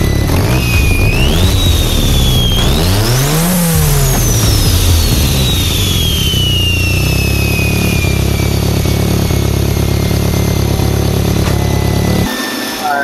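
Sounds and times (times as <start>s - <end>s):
car engine idling: 0.0s - 12.3s
turbo whine: 0.0s - 13.0s.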